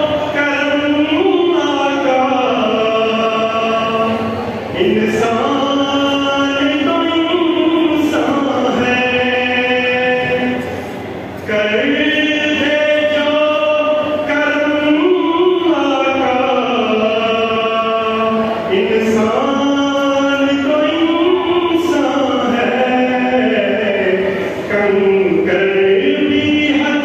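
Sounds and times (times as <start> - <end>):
man chanting: 0.0 - 27.0.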